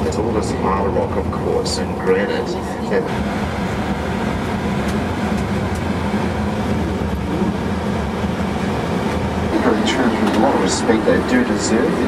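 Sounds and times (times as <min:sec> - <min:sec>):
coach engine and road drone: 0:00.0 - 0:12.0.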